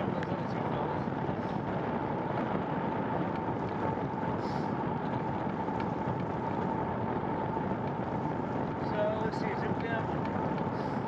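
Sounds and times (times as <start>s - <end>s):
bicycle riding noise: 0.0s - 11.0s
wind on microphone: 0.0s - 11.0s.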